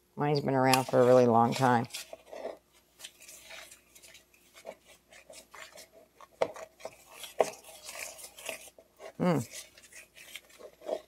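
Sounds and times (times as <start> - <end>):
whisk scraping mixing bowl: 0.4 - 11.0.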